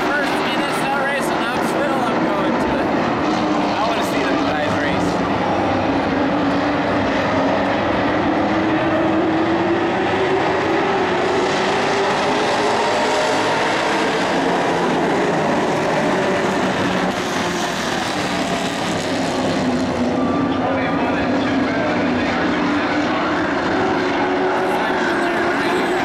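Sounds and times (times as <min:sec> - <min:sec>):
racing truck engines droning: 0:00.0 - 0:26.0.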